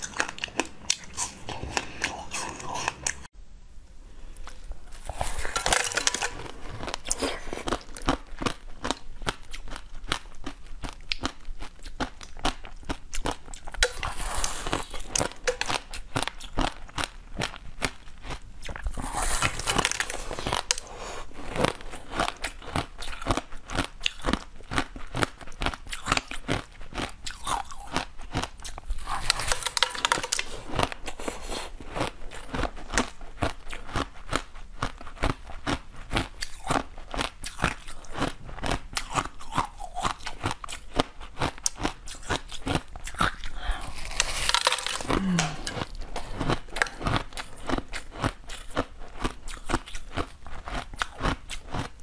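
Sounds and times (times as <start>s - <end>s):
crunchy biting and chewing: 0.0s - 3.3s, 4.4s - 52.0s.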